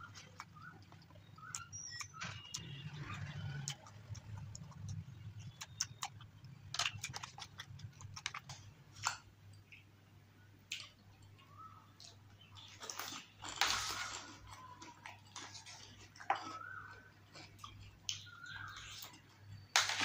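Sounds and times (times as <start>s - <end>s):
chewing: 0.0s - 9.9s, 10.7s - 20.0s.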